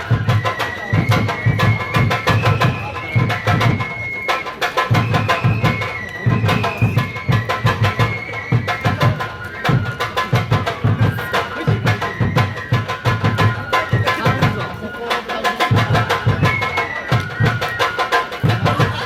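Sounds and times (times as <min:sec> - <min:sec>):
drums beating steady rhythm: 0:00.0 - 0:19.0
high flute melody: 0:00.0 - 0:19.0.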